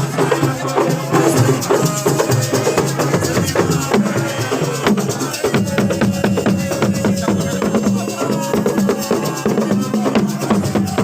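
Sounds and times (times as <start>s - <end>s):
fast rhythmic drumming: 0.0s - 11.0s
festive music: 0.0s - 11.0s
rattling shaker percussion: 0.0s - 11.0s.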